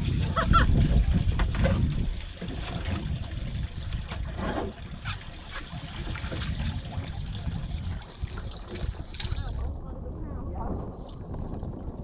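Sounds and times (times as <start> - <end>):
water lapping and sloshing: 0.0 - 12.0
wind rumbling on microphone: 0.0 - 12.0.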